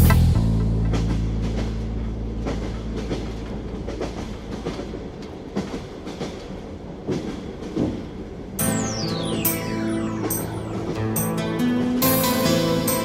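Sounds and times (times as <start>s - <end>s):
train wheels clacking: 0.0s - 8.8s, 9.5s - 13.0s
low train rumble: 0.0s - 13.0s.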